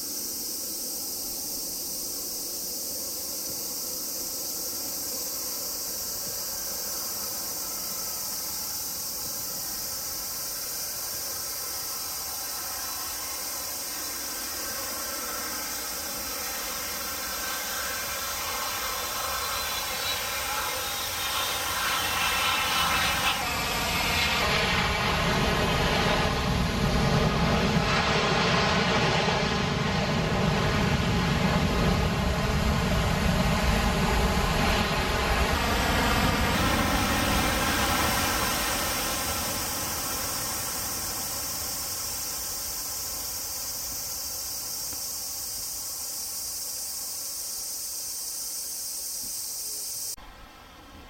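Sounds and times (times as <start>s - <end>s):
jet engines rumbling and whining: 0.0s - 51.0s.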